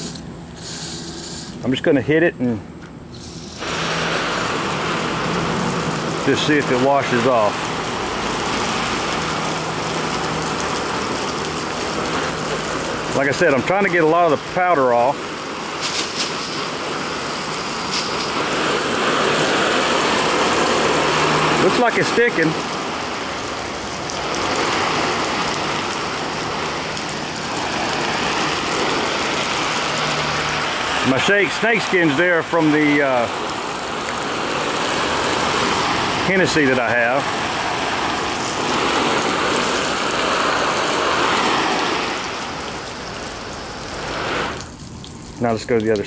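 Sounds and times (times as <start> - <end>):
hose spraying water on tarp: 0.0 - 1.8, 3.1 - 46.0.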